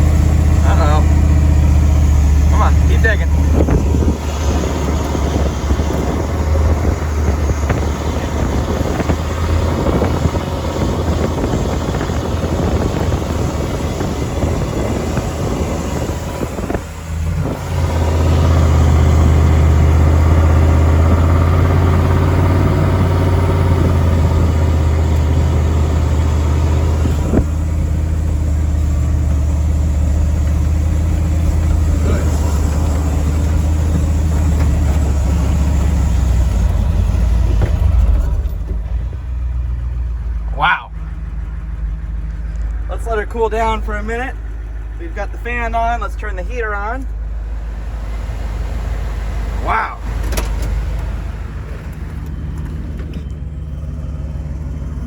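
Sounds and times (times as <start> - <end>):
diesel truck engine under load: 0.0 - 55.0.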